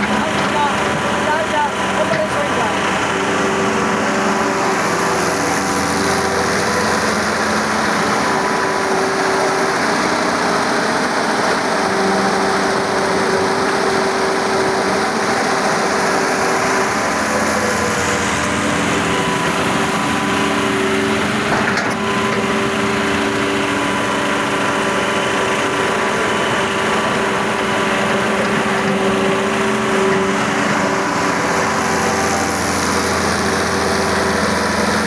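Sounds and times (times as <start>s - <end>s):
excavator engine running: 0.0s - 35.0s.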